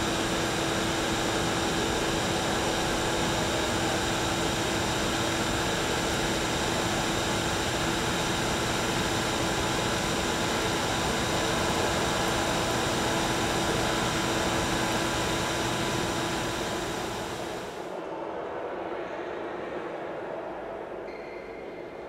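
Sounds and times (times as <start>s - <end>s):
vacuum motor whine: 0.0s - 17.9s.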